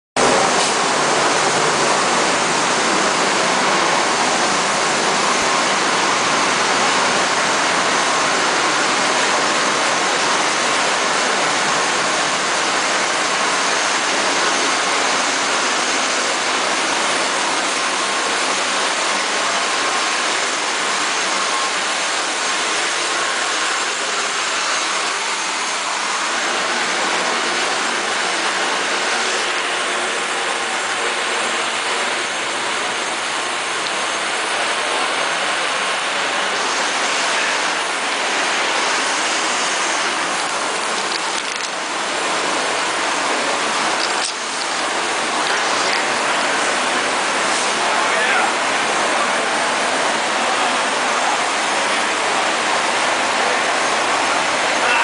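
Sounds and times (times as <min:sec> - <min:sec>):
turbine engines whining: 0:00.2 - 0:55.0.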